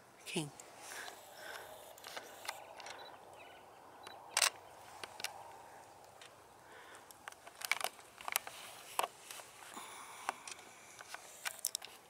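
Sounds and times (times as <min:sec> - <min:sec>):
quiet outdoor ambience: 0:00.0 - 0:12.0.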